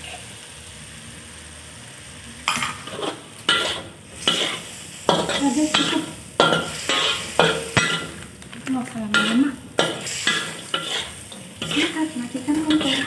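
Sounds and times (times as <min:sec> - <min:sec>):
oil sizzling: 0:00.0 - 0:13.0
metal spatula scraping wok: 0:02.5 - 0:13.0.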